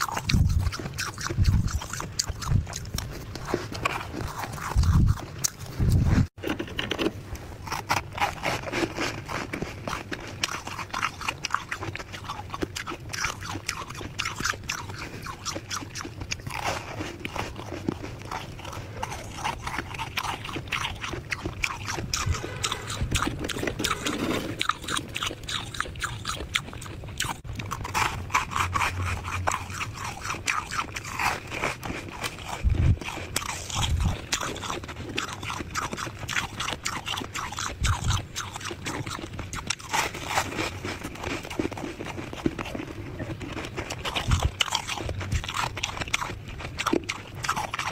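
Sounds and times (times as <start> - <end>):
crunching frost being chewed: 0.0 - 47.9.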